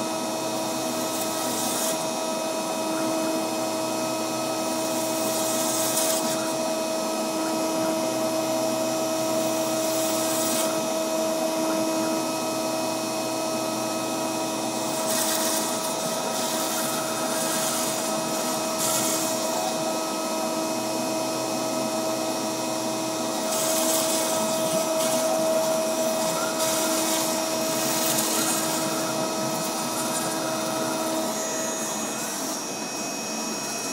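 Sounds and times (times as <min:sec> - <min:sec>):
hissing of bit carving foam: 0:00.0 - 0:33.9
router spindle whining: 0:00.0 - 0:33.9.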